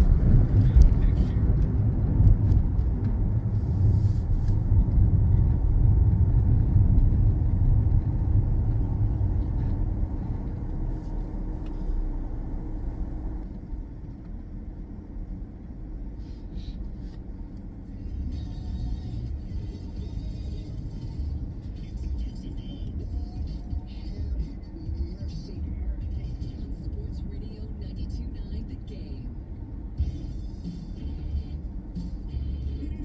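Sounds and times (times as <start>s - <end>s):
car engine rumble from inside: 0.0s - 33.0s.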